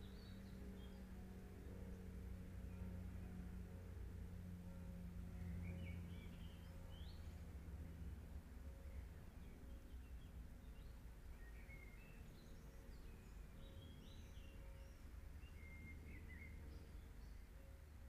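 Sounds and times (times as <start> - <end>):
low steady hum and hiss: 0.0 - 18.0.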